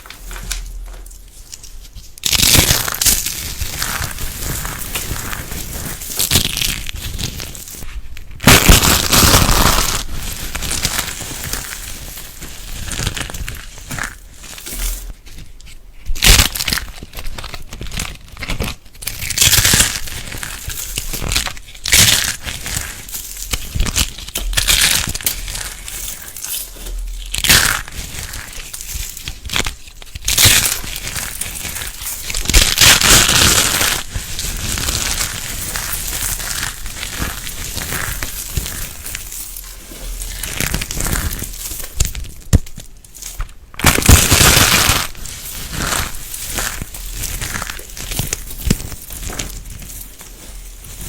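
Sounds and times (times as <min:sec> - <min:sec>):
crunchy material crackling: 0:00.0 - 0:51.0.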